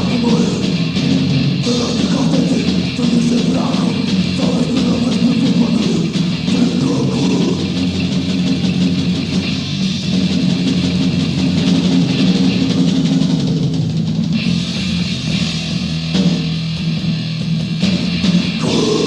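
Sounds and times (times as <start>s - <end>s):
distorted electric guitars: 0.0s - 19.0s
drum kit playing: 0.0s - 19.0s.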